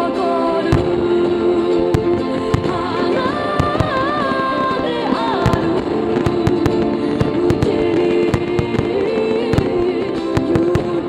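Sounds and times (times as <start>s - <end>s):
fireworks bursting and crackling: 0.0s - 11.0s
loud music: 0.0s - 11.0s.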